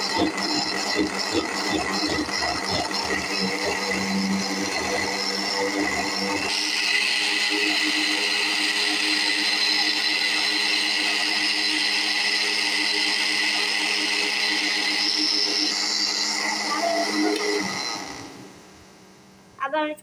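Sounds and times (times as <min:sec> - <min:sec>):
mixer grinder motor whirring: 0:00.0 - 0:18.6.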